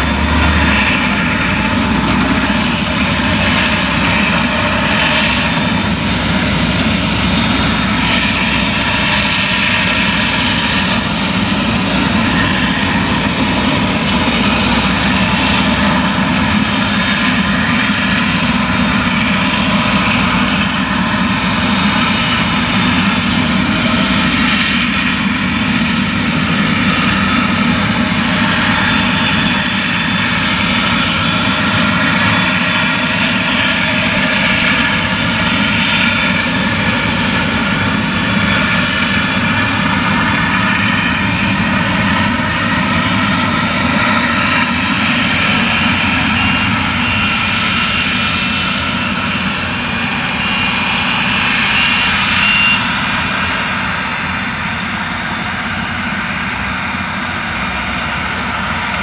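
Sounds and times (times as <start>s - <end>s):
harvester engine droning: 0.0s - 59.0s.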